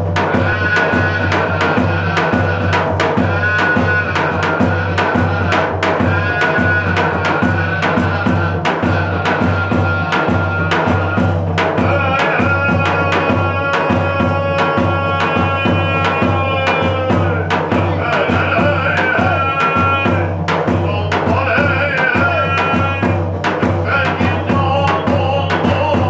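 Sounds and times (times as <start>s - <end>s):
bass drum beating: 0.0s - 26.0s.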